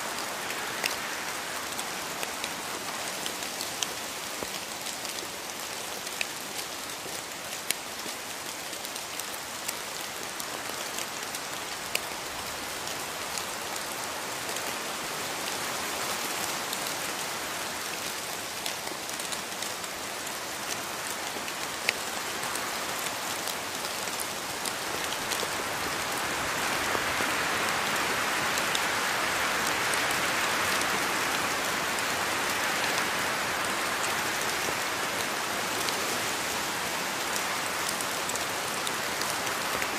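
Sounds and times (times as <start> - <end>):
raindrops ticking on leaves: 0.0 - 39.9
steady rainfall: 0.0 - 39.9.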